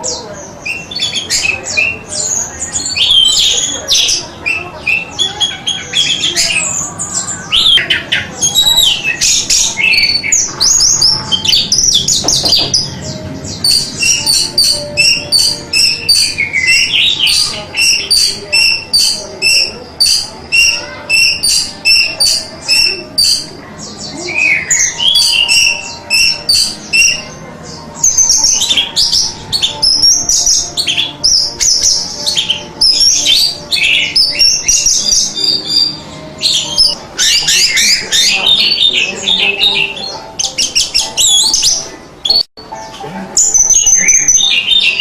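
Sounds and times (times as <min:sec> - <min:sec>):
thrush singing: 0:00.0 - 0:45.0.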